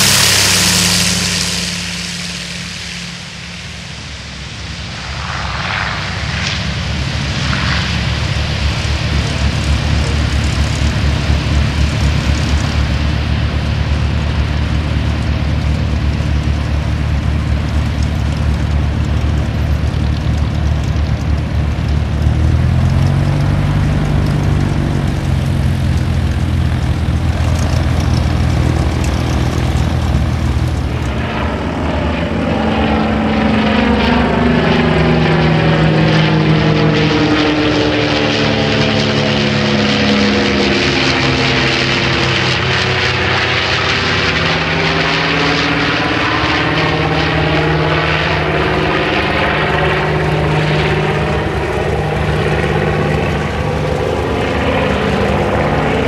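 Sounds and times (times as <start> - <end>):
bomber plane passing overhead: 0.0 - 56.0
radial aircraft engines droning: 0.0 - 56.0.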